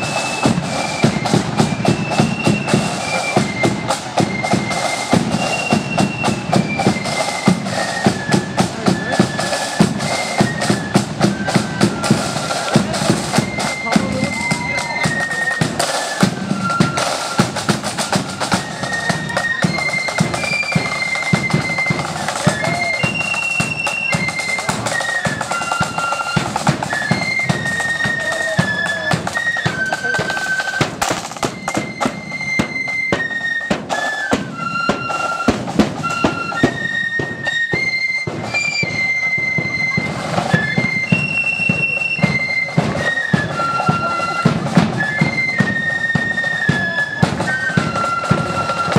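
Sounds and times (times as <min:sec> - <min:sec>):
flutes playing in unison: 0:00.0 - 0:48.9
snare drums rattling: 0:00.0 - 0:48.9.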